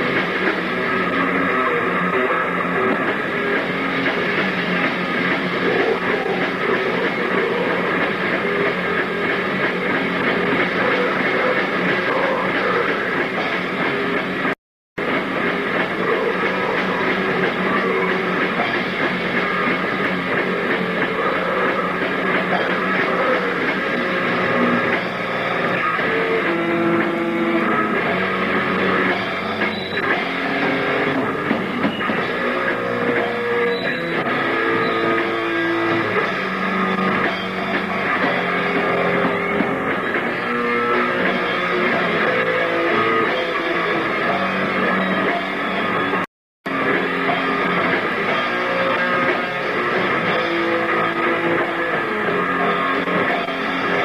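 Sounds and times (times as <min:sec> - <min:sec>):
distorted electric guitar riffing: 0:00.0 - 0:54.0
drum kit: 0:00.0 - 0:54.0.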